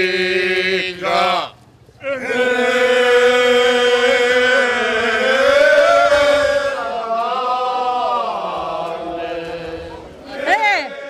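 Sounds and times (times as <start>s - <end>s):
men singing in unison: 0.0s - 11.0s.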